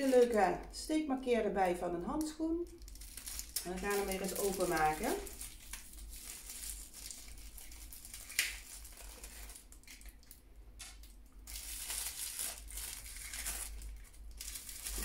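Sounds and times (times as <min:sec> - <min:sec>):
gift wrapping crinkling: 0:00.0 - 0:00.5, 0:02.6 - 0:15.0.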